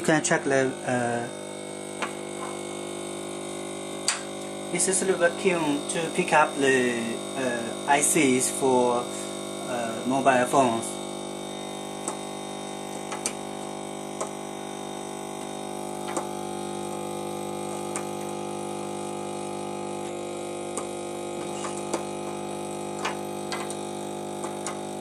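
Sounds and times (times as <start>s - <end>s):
vacuum pump humming: 0.0s - 25.0s.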